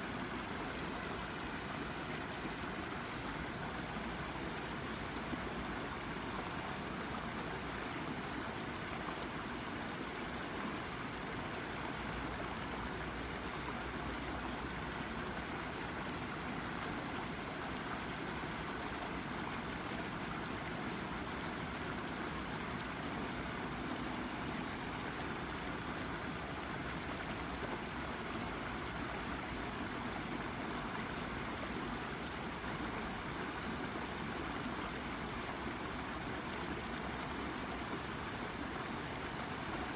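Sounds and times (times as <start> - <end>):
brook babbling over rock: 0.0 - 39.9.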